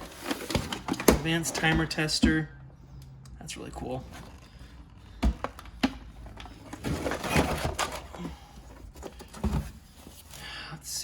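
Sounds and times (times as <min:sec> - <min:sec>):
tools rustling and clattering: 0:00.0 - 0:02.4, 0:03.8 - 0:10.4.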